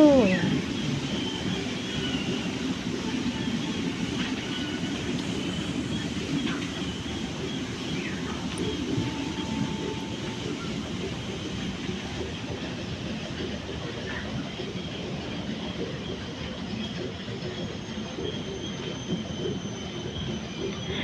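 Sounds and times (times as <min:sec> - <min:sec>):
tram motor and wheels: 0:00.0 - 0:21.0.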